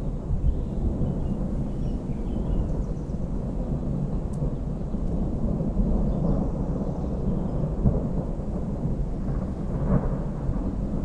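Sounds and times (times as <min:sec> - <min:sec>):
rolling thunder: 0:00.0 - 0:11.0.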